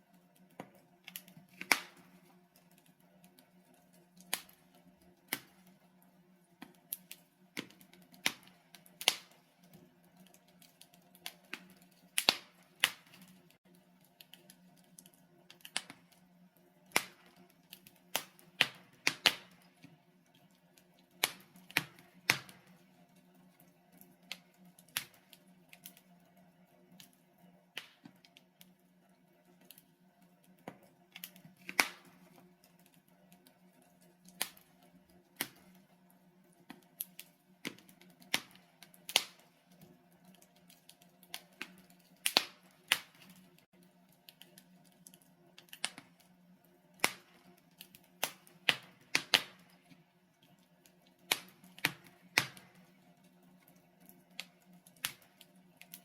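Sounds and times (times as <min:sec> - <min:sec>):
wood fire crackling: 0:00.0 - 0:56.0
sharp pops and snaps: 0:00.3 - 0:05.7, 0:06.5 - 0:22.8, 0:23.9 - 0:26.1, 0:27.0 - 0:28.7, 0:30.4 - 0:33.6, 0:34.2 - 0:35.9, 0:36.6 - 0:46.4, 0:47.0 - 0:52.9, 0:54.0 - 0:56.0.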